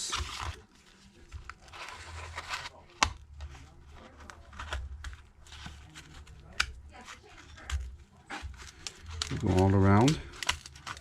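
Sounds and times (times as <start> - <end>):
plastic card scraping and crackling: 0.0 - 11.0.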